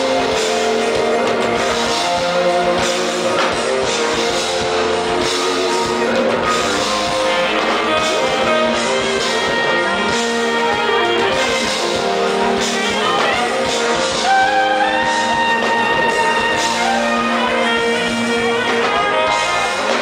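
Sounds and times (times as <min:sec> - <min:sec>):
bass guitar: 0:00.0 - 0:20.0
drums: 0:00.0 - 0:20.0
electric guitar: 0:00.0 - 0:20.0
keyboards: 0:00.0 - 0:20.0.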